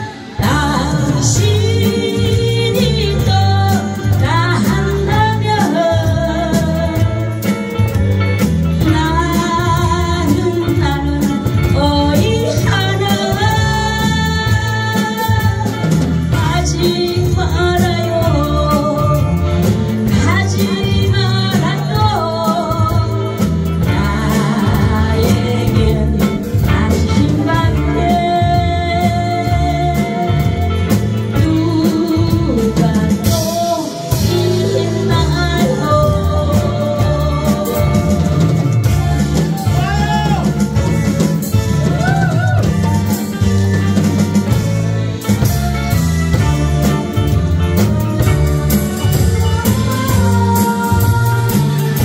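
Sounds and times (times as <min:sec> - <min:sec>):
woman singing a ballad: 0:00.0 - 0:39.7, 0:46.3 - 0:52.0
band playing a steady beat: 0:00.0 - 0:52.0.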